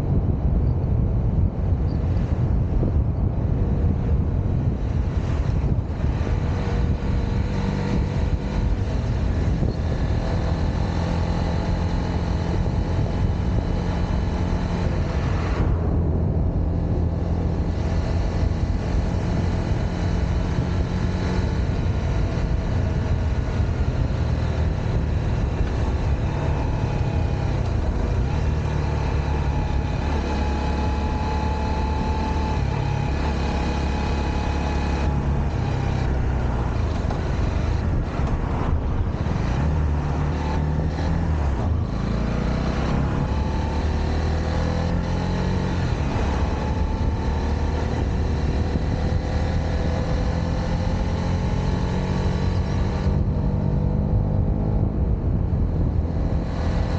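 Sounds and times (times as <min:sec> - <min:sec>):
steady rushing noise: 0:00.0 - 0:56.9
motorcycle engine running: 0:02.6 - 0:56.9.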